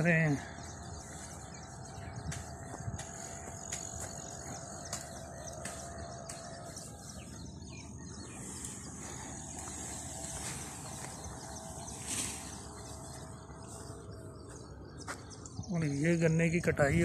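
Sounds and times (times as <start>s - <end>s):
thin high steady whine: 0.0s - 14.9s
distant bird calls: 0.0s - 17.0s.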